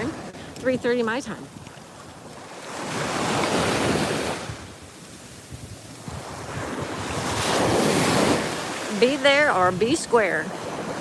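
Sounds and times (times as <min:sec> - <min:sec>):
ocean surf breaking on a beach: 0:00.0 - 0:11.0.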